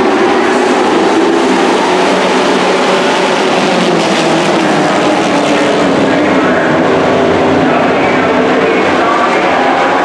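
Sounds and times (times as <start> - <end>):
many racing truck engines: 0.0 - 10.0.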